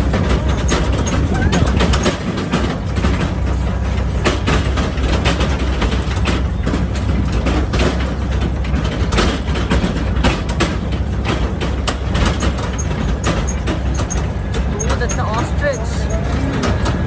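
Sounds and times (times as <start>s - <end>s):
rattles and knocks: 0.0s - 17.0s
tractor engine running: 0.0s - 17.0s.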